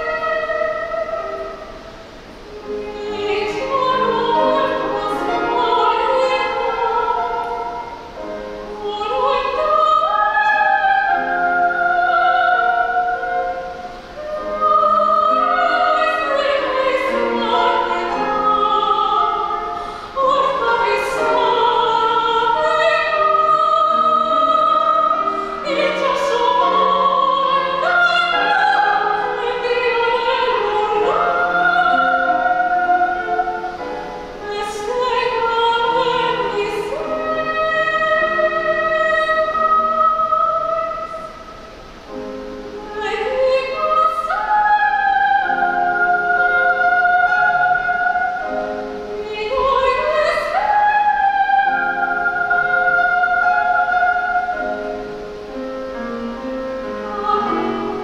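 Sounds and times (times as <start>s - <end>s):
grand piano accompaniment: 0.0s - 58.0s.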